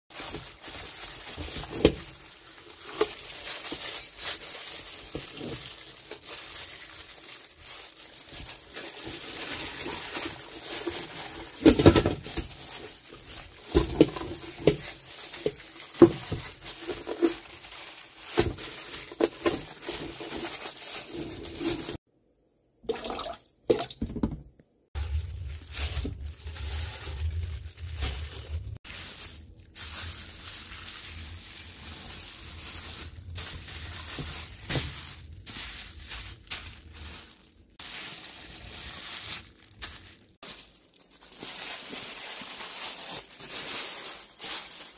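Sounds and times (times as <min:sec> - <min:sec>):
plastic rustling: 0:00.1 - 0:22.0, 0:23.1 - 0:44.9.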